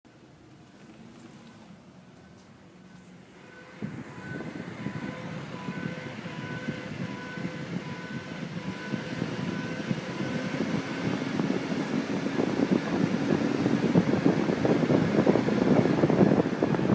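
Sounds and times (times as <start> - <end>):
road noise: 0.1 - 16.9
wheel hum: 0.1 - 16.9.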